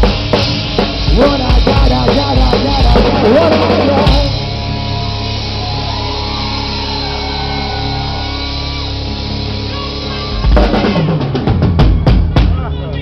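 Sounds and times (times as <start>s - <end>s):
drum kit: 0.0s - 7.6s, 8.8s - 13.0s
electric guitar chords: 0.0s - 13.0s.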